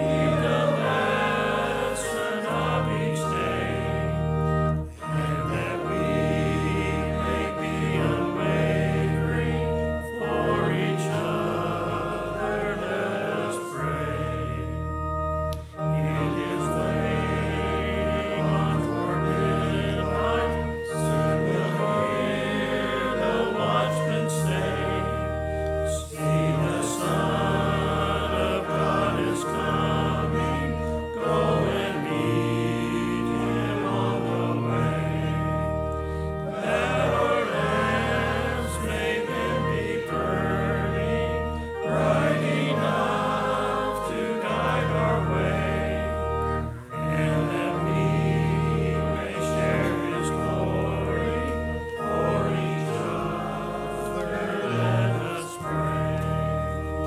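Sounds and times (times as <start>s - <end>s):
congregation singing a hymn: 0.0s - 57.0s
organ holding chords: 0.0s - 57.0s.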